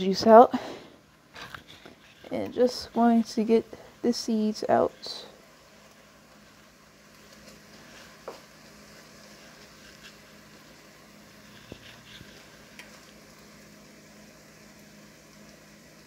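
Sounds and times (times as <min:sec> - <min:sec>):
vegetables sizzling in a frying pan: 0:01.4 - 0:16.0.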